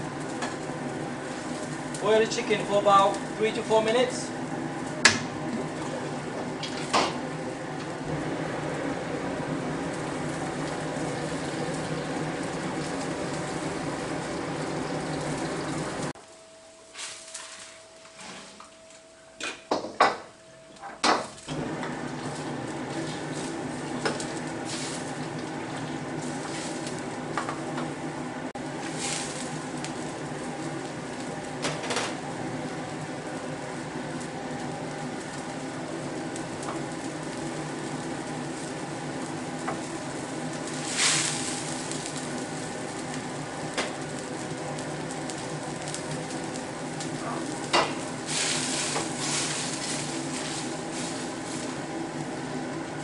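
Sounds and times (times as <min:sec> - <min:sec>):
food sizzling in hot oil: 0:00.0 - 0:17.7, 0:21.2 - 0:53.0.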